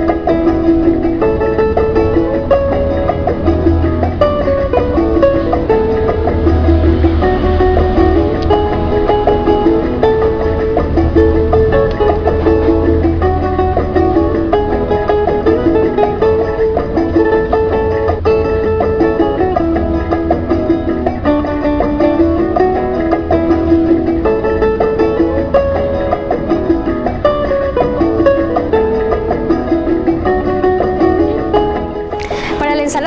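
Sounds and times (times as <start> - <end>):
plucked string music: 0.0 - 33.0.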